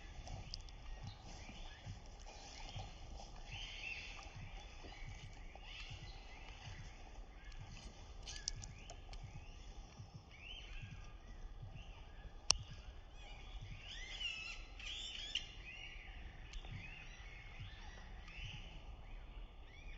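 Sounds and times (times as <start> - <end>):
wild birds calling: 0.0 - 19.9.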